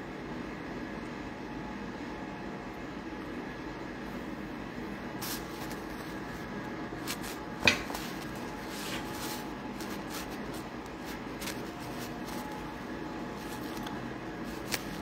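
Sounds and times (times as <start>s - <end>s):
indoor background hum: 0.0s - 15.0s.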